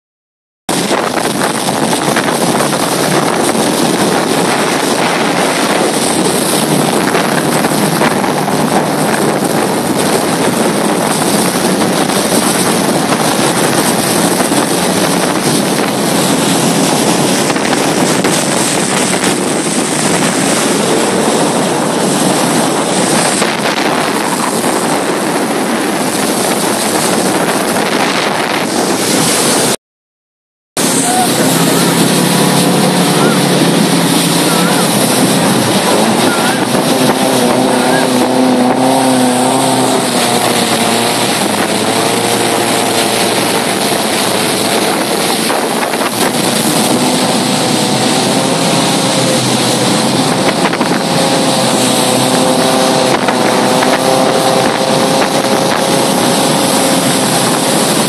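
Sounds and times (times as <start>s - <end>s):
boat motor running: 0.7s - 29.8s, 30.8s - 58.0s
wind rushing on microphone: 0.7s - 29.8s, 30.8s - 58.0s.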